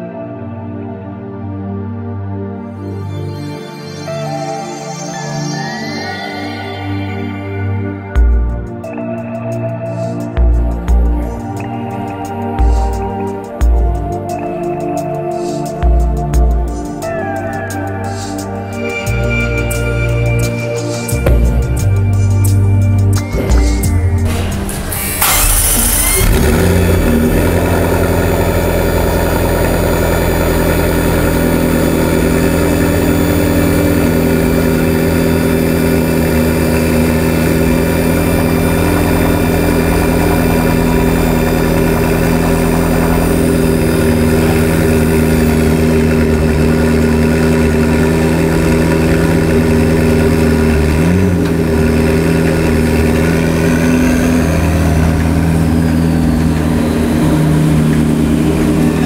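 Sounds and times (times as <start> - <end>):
car engine idling: 9.9 - 59.0.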